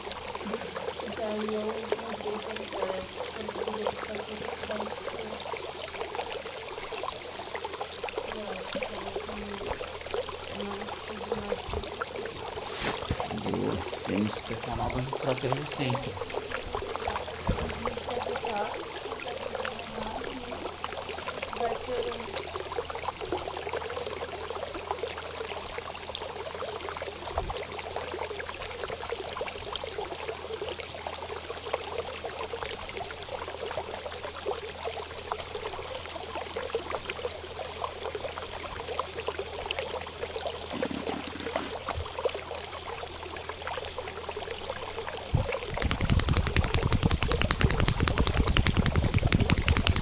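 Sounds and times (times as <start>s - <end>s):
running trickling water: 0.0s - 50.0s.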